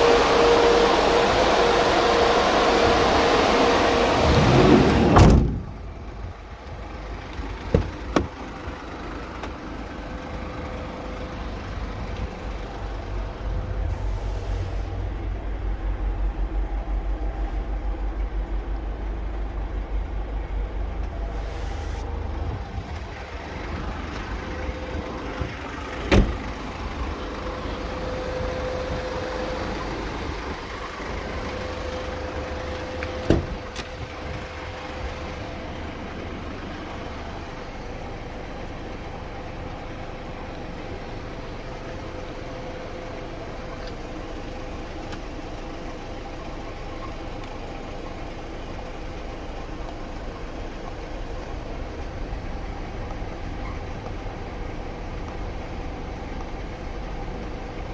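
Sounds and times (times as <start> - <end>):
diesel van engine running: 0.0 - 57.9.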